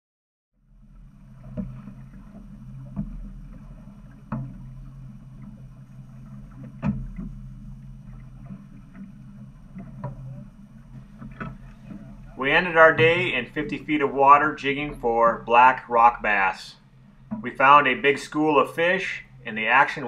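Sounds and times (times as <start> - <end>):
boat engine humming: 0.6 - 20.0.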